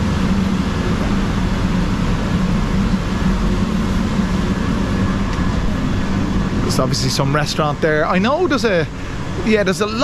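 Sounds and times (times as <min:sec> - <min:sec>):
machinery hum and rumble: 0:00.0 - 0:10.0.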